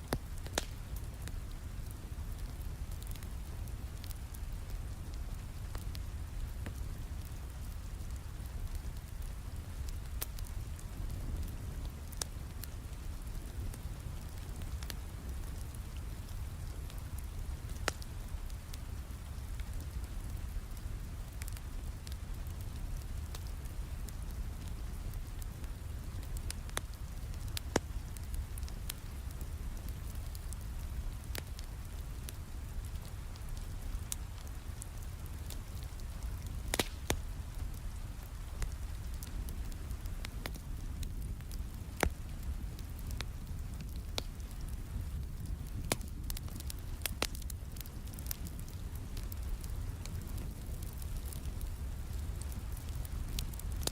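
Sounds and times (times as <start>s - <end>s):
steady rain: 0.0s - 53.9s
wood fire crackling and popping: 0.0s - 53.9s.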